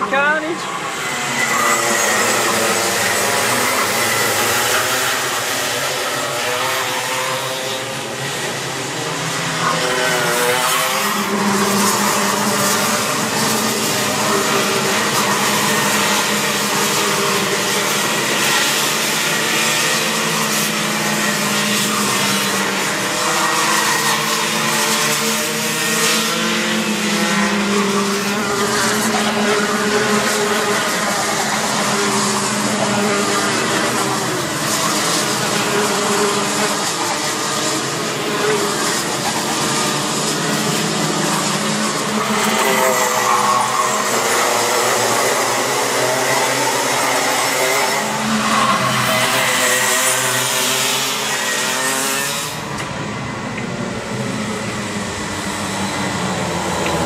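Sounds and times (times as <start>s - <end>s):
kart engines racing past: 0.0s - 57.0s.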